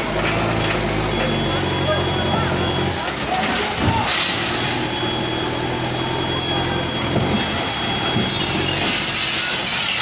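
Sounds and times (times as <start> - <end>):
wheel loader diesel engine: 0.0 - 10.0.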